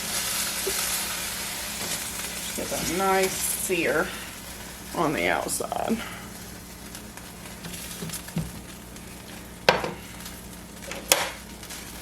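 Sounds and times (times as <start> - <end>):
steak sizzling in a skillet: 0.0 - 12.0.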